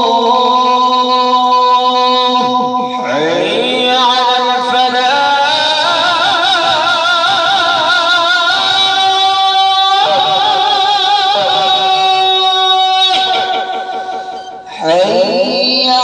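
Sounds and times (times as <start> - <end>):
man singing call to prayer: 0.0 - 16.0.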